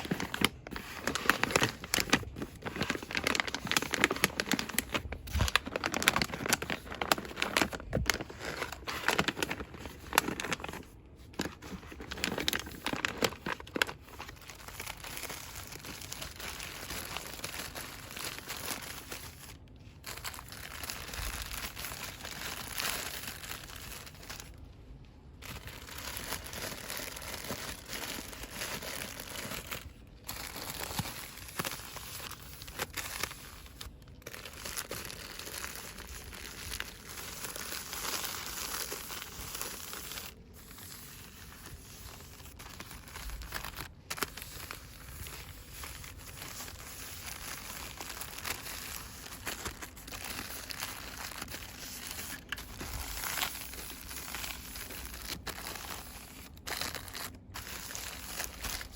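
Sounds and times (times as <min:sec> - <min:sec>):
packaging rustling and crinkling: 0:00.0 - 0:58.9.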